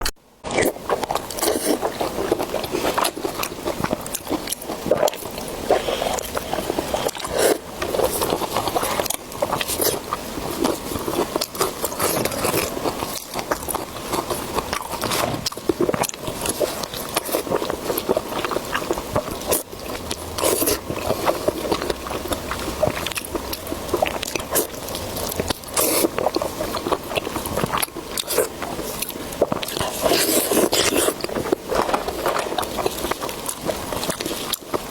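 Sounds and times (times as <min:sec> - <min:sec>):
person biting and chewing food: 0:00.0 - 0:34.9.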